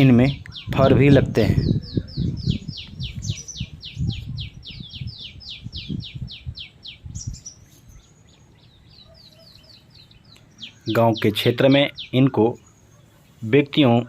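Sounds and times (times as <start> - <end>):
bird calling: 0.0 - 14.0.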